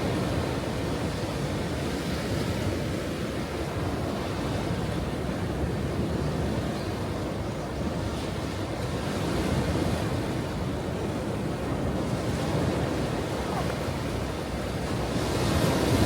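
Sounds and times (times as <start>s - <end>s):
ocean waves on shore: 0.0s - 16.0s.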